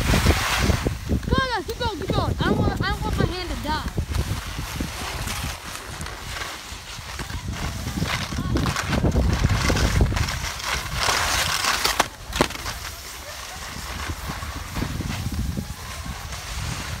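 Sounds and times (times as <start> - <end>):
scraping hiss sliding on icy snow: 0.0 - 17.0
wind buffeting microphone: 0.0 - 17.0.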